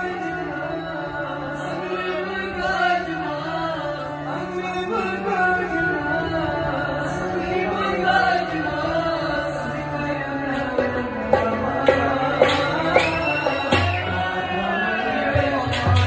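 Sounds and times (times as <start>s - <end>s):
held drone accompaniment: 0.0s - 16.0s
man singing slow melody: 0.0s - 16.0s.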